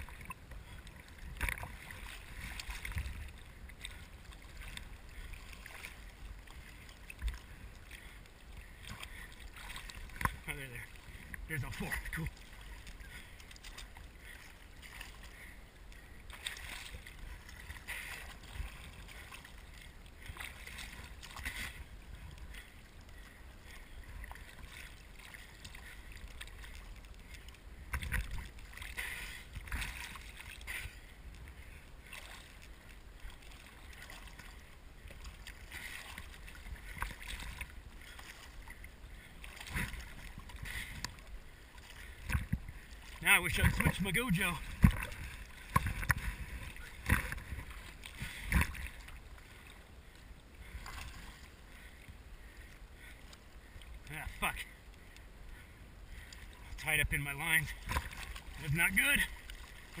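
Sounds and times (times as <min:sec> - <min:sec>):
water lapping and splashing: 0:00.0 - 1:00.0.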